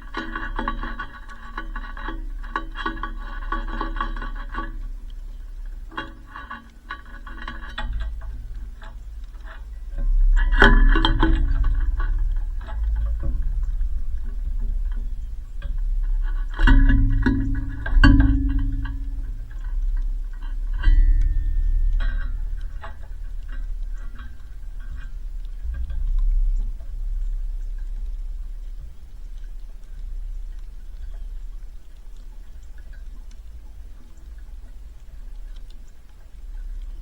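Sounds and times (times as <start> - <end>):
low bass hum: 0.0 - 37.0.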